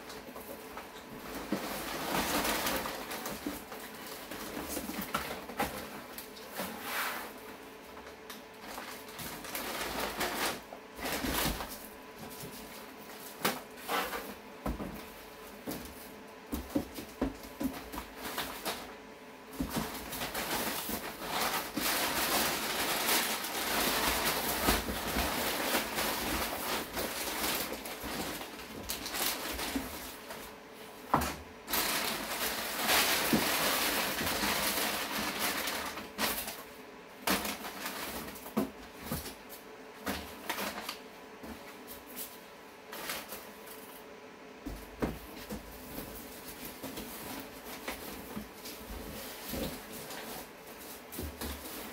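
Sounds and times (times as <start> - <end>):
paper and plastic wrap crinkling: 0.0 - 44.0, 44.8 - 51.9.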